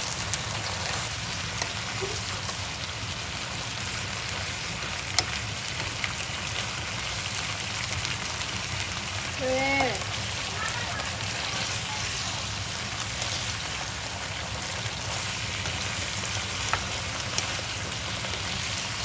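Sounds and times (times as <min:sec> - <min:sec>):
food sizzling in a pan: 0:00.0 - 0:19.0
sharp pops of frying: 0:00.0 - 0:19.0.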